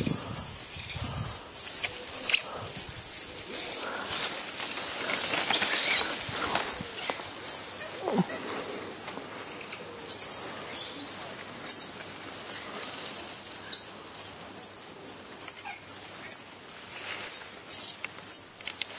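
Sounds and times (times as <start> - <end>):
monkeys peeping: 0.0 - 18.9.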